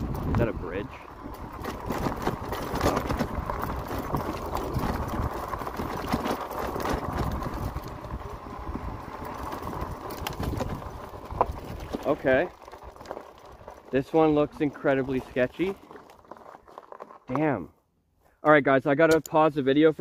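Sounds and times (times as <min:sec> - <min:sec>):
bike tyres crunching over gravel: 0:00.0 - 0:20.0.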